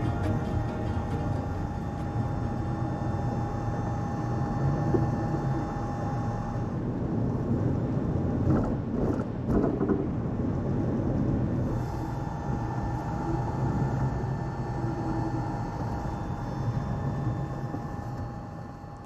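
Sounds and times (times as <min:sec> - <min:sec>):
low road rumble in vehicle: 0:00.0 - 0:19.0.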